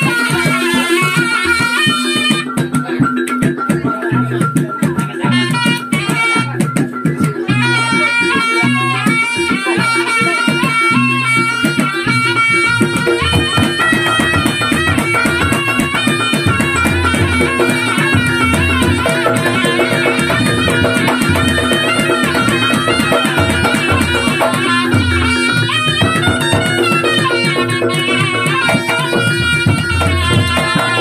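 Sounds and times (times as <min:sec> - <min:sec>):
hand drums and percussion: 0:00.0 - 0:31.0
shawm playing melody: 0:00.0 - 0:31.0.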